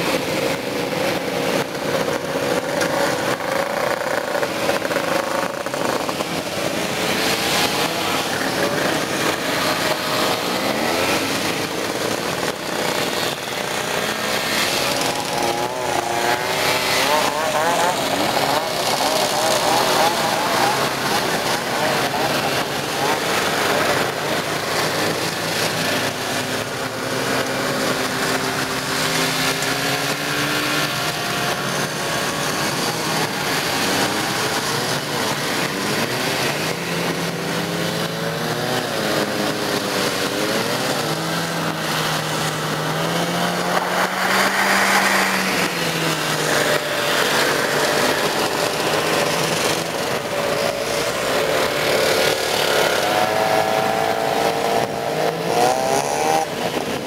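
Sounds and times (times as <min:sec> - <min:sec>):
snowmobile engines passing: 0:00.0 - 0:57.0.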